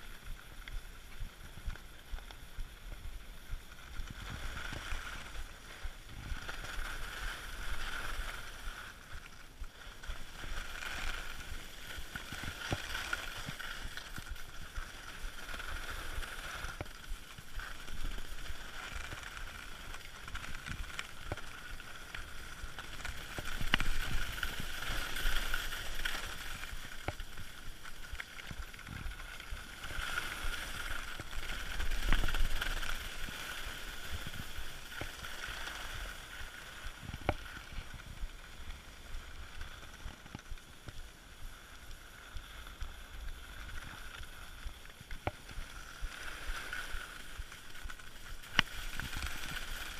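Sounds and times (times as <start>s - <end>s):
skis scraping over snow: 0.0s - 49.9s.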